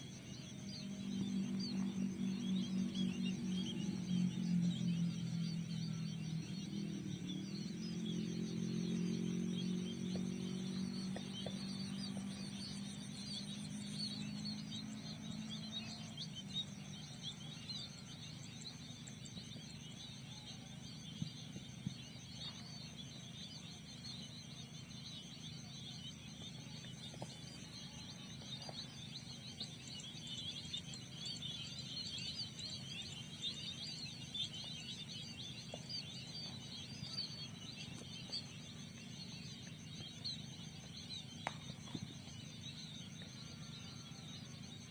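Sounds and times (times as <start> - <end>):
high insect drone: 0.0 - 44.9
small birds chirping: 0.0 - 44.9.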